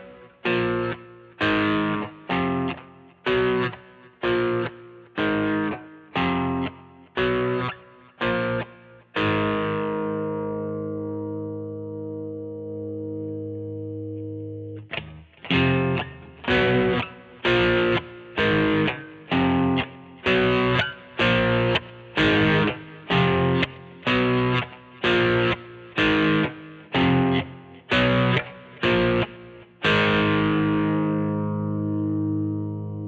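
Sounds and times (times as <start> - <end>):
distorted electric guitar chords: 0.0 - 33.0.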